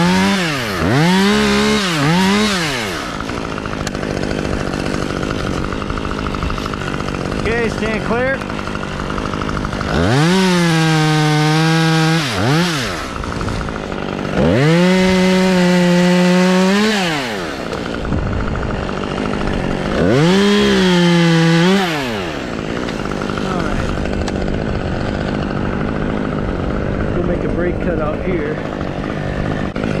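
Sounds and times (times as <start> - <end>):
chainsaw revving cutting wood: 0.0 - 30.0.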